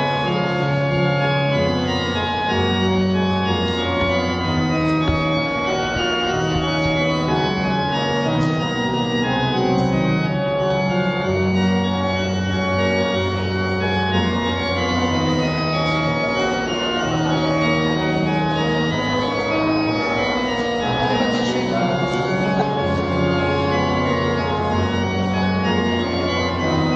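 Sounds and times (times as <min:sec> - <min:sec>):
organ playing slow chords: 0:00.0 - 0:26.9.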